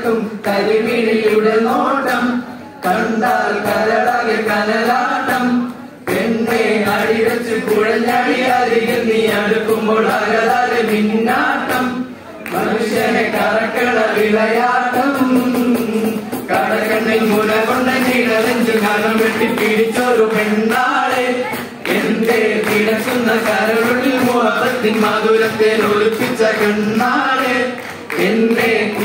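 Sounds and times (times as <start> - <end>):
men singing folk song in chorus: 0.0 - 29.0.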